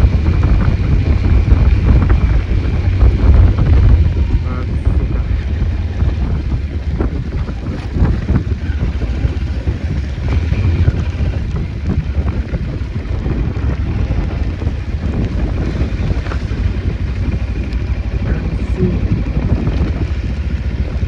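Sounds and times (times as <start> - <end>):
motorcycle engine rumble: 0.0 - 21.0
wind buffeting microphone: 0.0 - 21.0.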